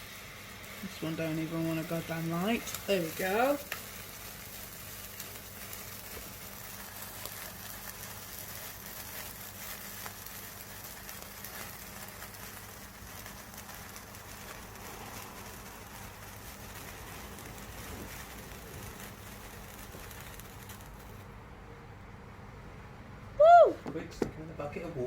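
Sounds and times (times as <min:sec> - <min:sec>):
sparklers fizzing: 0:00.0 - 0:21.4.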